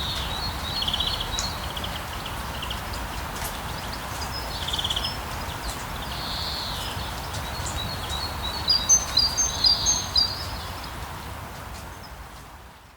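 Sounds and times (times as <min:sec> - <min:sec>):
small birds chirping: 0:00.0 - 0:11.0
steady rain hiss: 0:00.0 - 0:12.9.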